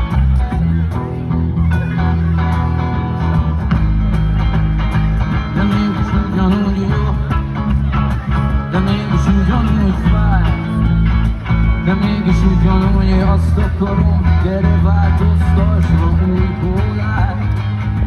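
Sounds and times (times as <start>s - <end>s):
plucked guitars: 0.0s - 18.0s
strong bass line: 0.0s - 18.0s.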